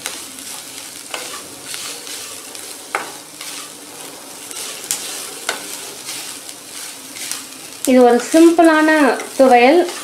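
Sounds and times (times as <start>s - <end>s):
coconut sizzling in a pan: 0.0s - 10.0s
wooden spatula stirring: 0.5s - 10.0s.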